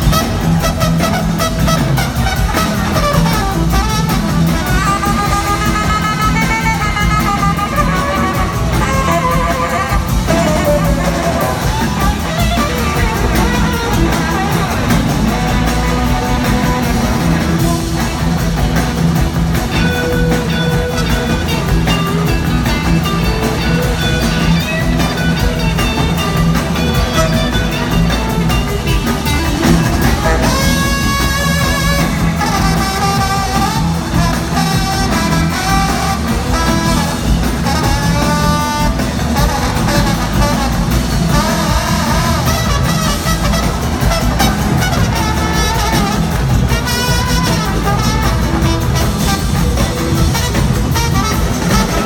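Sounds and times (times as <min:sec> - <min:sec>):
electric guitar bending notes: 0:00.0 - 0:52.0
live rock band playing: 0:00.0 - 0:52.0.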